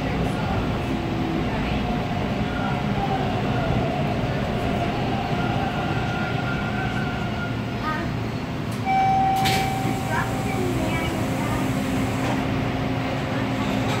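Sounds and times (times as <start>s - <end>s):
faint train whine: 0.0s - 14.0s
subway train wheel rumble: 0.0s - 14.0s.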